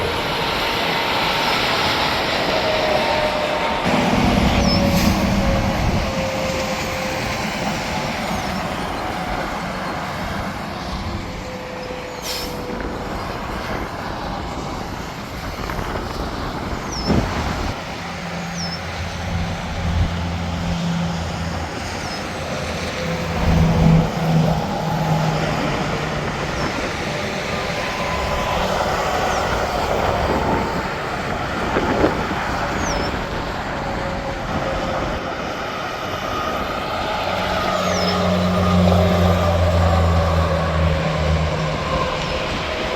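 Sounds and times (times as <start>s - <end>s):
highway traffic rushing: 0.0s - 42.9s.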